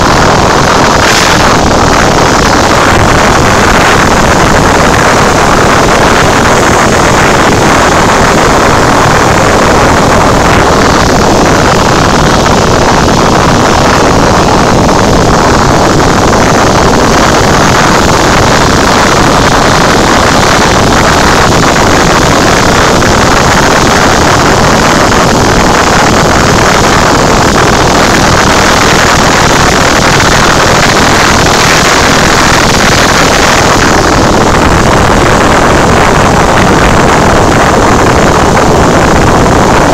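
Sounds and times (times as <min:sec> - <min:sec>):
propeller aircraft engine: 0:00.0 - 0:39.9
rushing airflow: 0:00.0 - 0:39.9.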